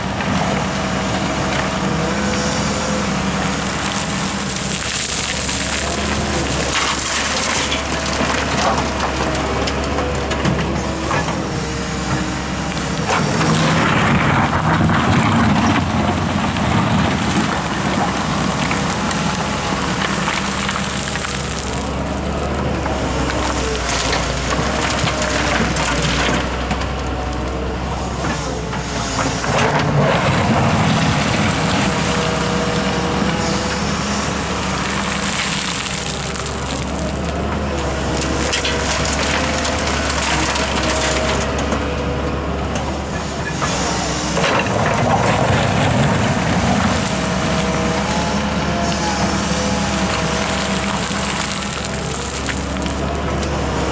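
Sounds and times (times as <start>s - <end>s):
bucket scooping soil: 0.0s - 53.9s
excavator diesel engine: 0.0s - 53.9s.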